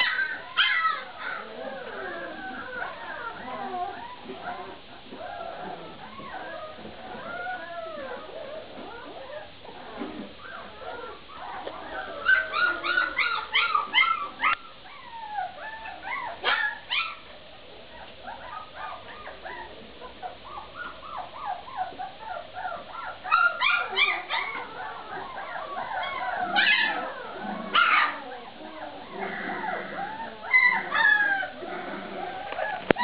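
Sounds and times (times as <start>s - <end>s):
puppies yipping and whimpering: 0.0s - 33.0s.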